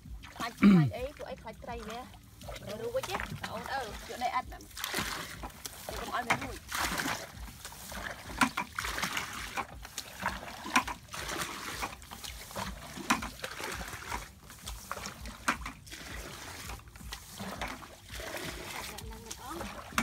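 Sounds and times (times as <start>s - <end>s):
water splashing from bucket: 0.0s - 20.0s.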